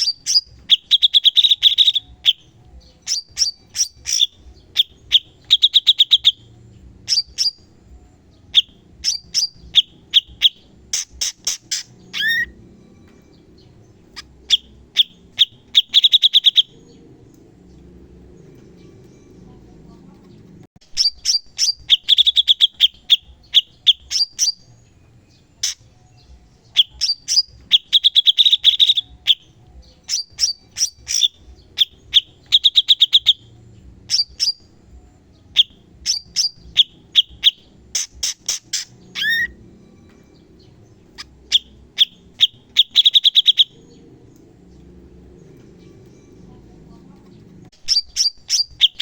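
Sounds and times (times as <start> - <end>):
songbird high chipping notes: 0.0 - 19.6, 20.8 - 49.0.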